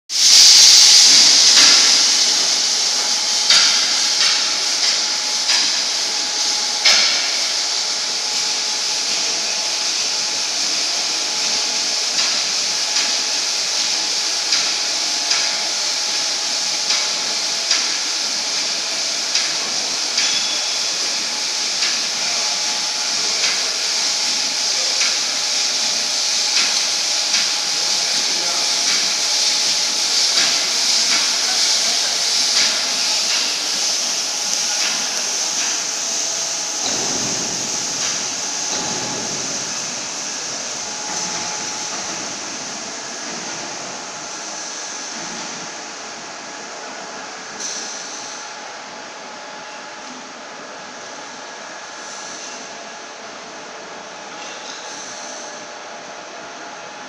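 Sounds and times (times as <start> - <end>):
steady hiss: 0.1 - 49.2.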